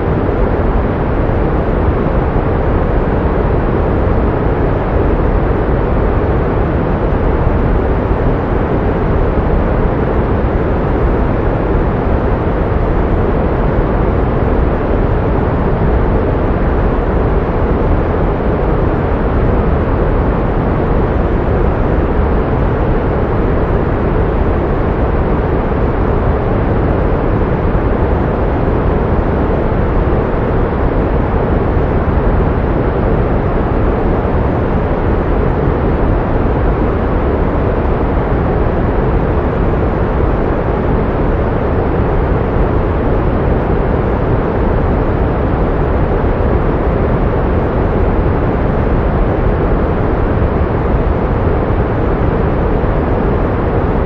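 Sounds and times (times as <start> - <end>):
steady pink noise: 0.0 - 54.0.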